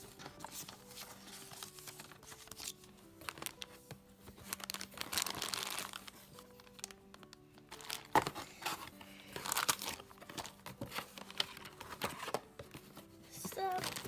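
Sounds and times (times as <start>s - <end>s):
soft background music: 0.0s - 14.0s
packaging crinkling: 0.1s - 3.8s, 4.4s - 12.4s, 13.5s - 14.0s.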